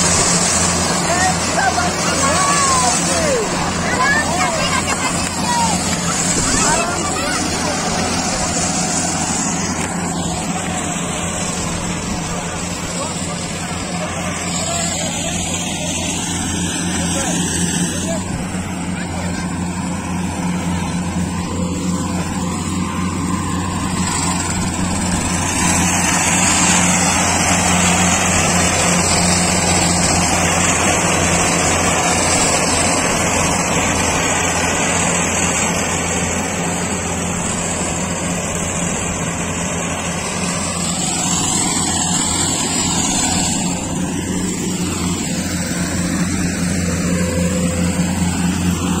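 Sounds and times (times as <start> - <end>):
combine harvester engine drone: 0.0 - 49.0
machinery rushing noise: 0.0 - 49.0.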